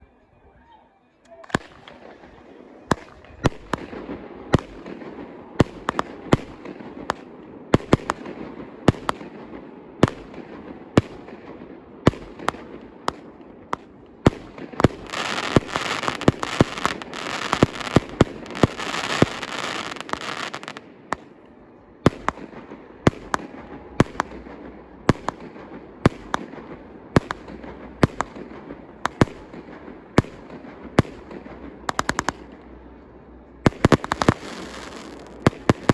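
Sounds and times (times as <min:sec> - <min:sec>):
fireworks bangs: 0:01.3 - 0:35.9
fireworks crackling: 0:01.3 - 0:35.9.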